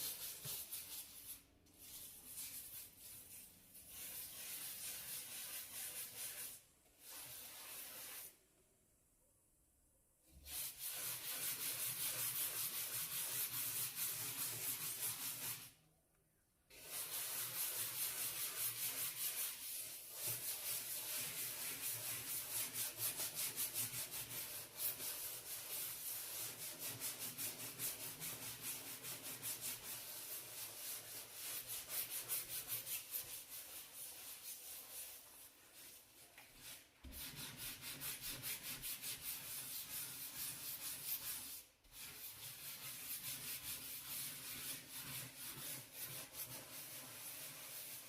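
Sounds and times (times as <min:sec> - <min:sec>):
brush scrubbing a surface: 0:00.0 - 0:08.4, 0:10.3 - 0:15.8, 0:16.7 - 0:48.0.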